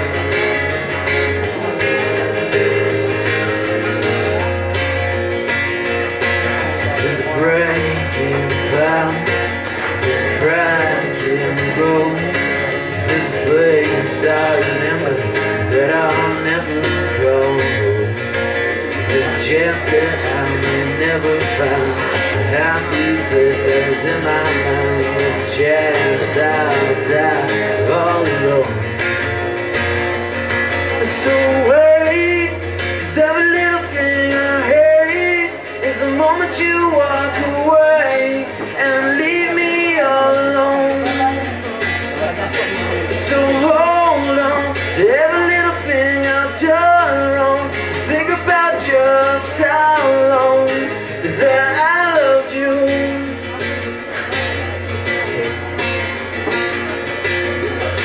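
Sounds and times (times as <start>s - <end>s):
man singing: 0.0s - 56.2s
acoustic guitar strumming: 0.0s - 58.0s.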